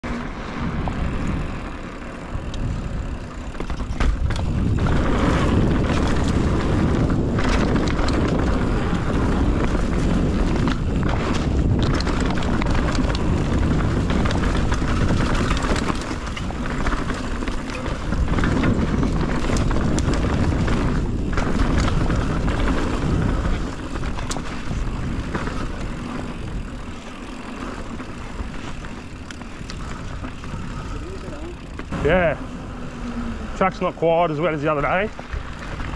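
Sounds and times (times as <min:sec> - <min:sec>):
bike knocking and rattling: 0:00.0 - 0:35.9
bike tyres rolling on dirt: 0:00.0 - 0:35.9
wind buffeting microphone: 0:00.0 - 0:35.9.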